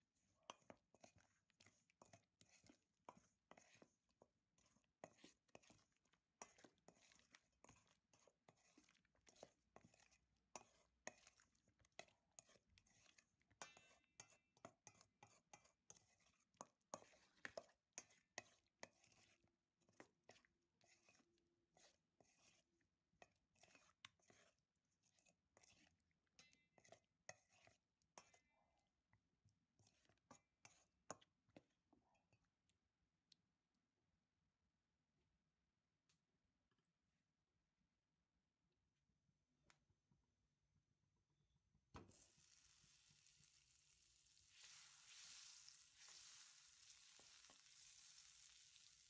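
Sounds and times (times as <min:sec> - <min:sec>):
hand mixing wings in batter: 0:00.0 - 0:33.8, 0:39.5 - 0:49.0.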